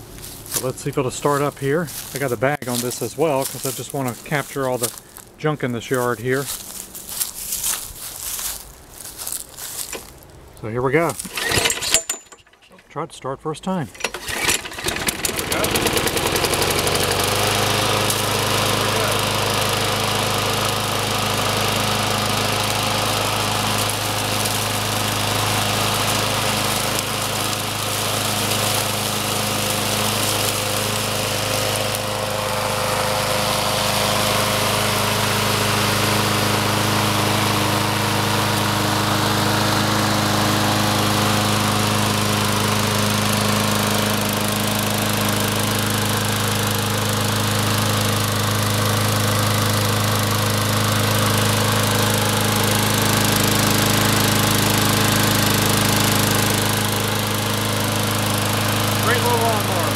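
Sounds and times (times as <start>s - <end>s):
lawn mower engine running: 0.0s - 13.0s, 13.8s - 59.9s.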